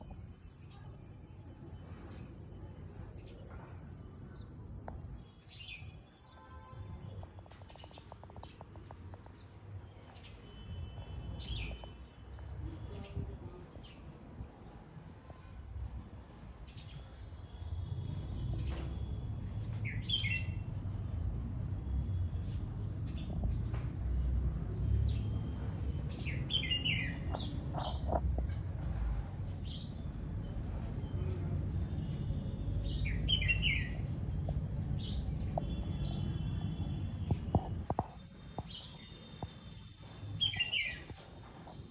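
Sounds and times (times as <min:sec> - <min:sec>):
songbirds chirping: 0:04.2 - 0:14.1, 0:16.7 - 0:41.9.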